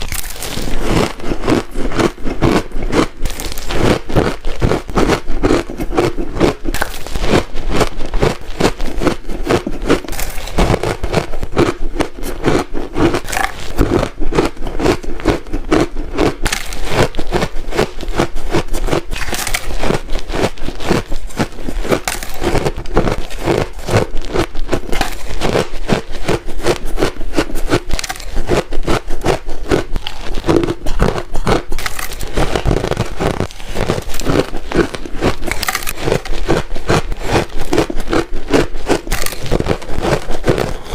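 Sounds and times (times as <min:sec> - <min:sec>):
ice cubes crunched between teeth: 0:00.0 - 0:40.9.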